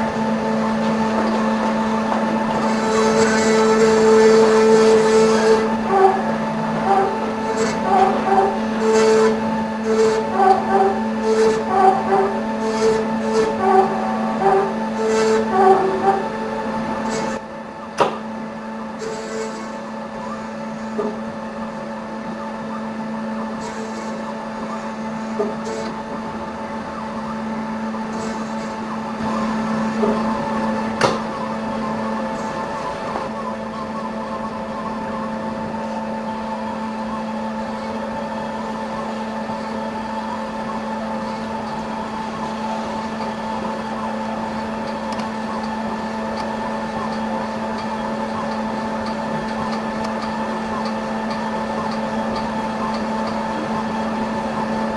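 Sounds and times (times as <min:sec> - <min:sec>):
milling machine running: 0:00.0 - 0:54.9.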